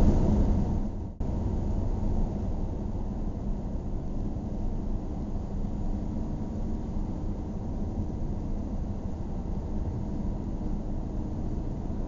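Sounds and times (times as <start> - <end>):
car road and engine noise: 0.0 - 12.0
faint hum: 0.0 - 12.0.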